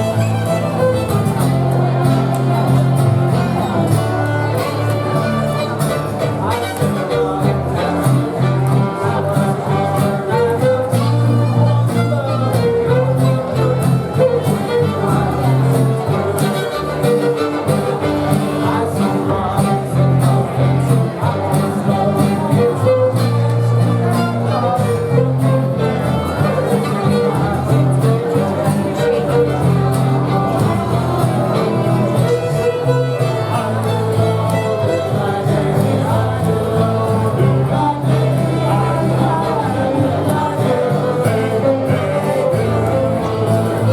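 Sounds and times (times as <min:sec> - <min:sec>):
fiddle playing folk music: 0:00.0 - 0:43.9
steady bass: 0:00.0 - 0:43.9.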